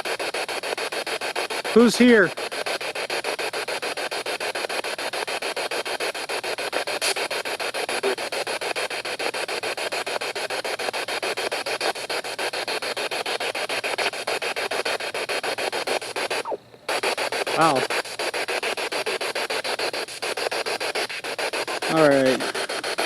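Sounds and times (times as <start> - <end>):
pulsing radio static: 0.0 - 23.0.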